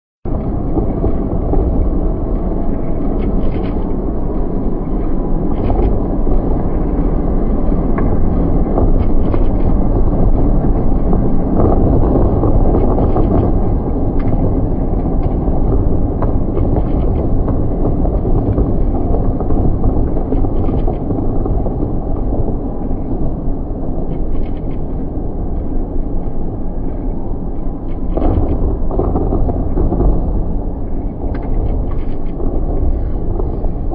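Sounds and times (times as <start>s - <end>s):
fireworks rumble: 0.3s - 33.9s.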